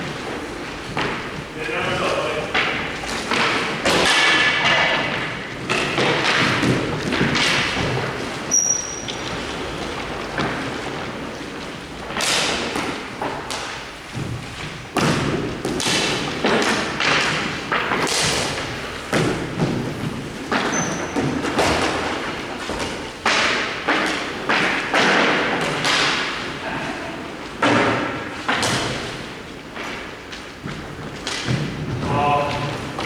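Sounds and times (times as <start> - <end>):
hockey sticks and pucks striking: 0.1 - 9.7, 12.0 - 26.8, 27.5 - 33.0.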